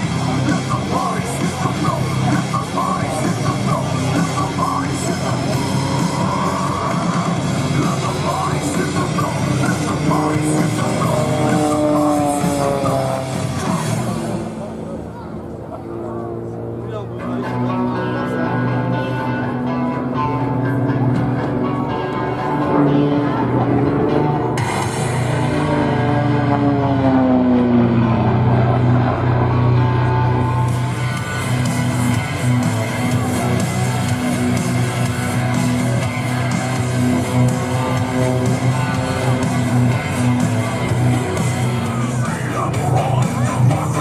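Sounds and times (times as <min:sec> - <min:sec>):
loud hard rock music: 0:00.0 - 0:14.8, 0:17.2 - 0:44.0
propeller plane flying past: 0:00.0 - 0:44.0.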